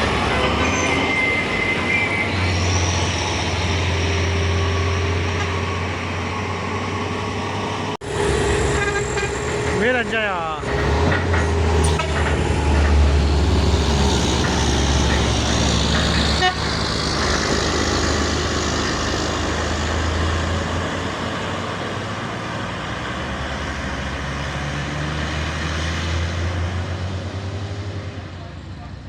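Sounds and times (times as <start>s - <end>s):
heavy truck engine running: 0.0s - 29.0s.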